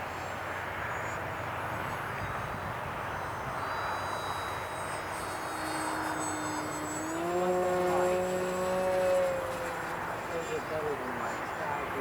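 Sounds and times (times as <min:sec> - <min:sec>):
low propeller note: 0:00.0 - 0:12.0
rc airplane motor whine: 0:00.0 - 0:12.0
wind noise on microphone: 0:00.0 - 0:12.0.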